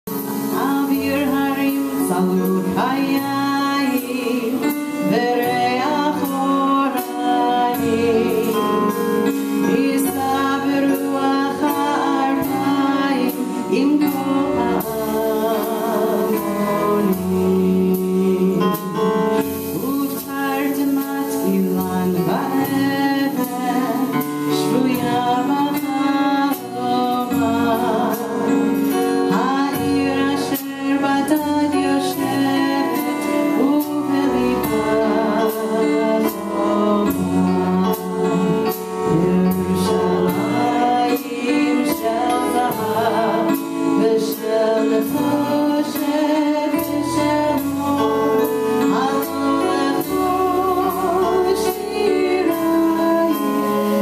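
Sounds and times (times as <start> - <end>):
drum kit: 0.0 - 54.0
woman singing: 0.1 - 54.0.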